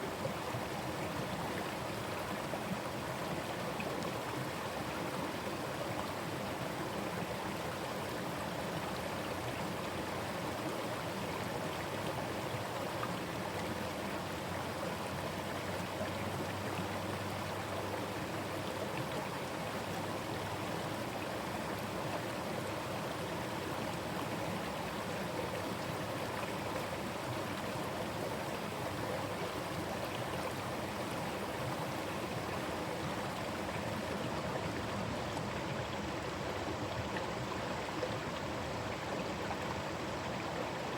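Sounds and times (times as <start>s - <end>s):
stream running over rocks: 0.0s - 40.9s.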